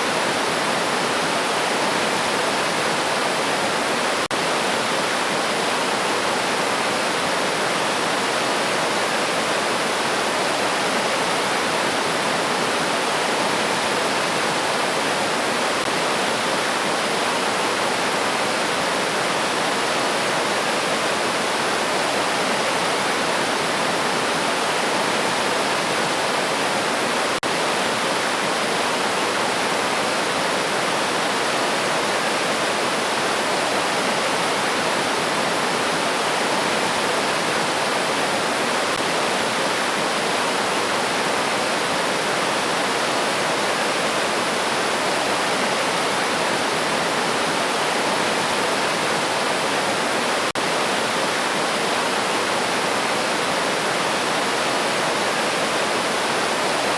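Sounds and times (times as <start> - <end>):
river water rushing over stones: 0.0 - 56.9.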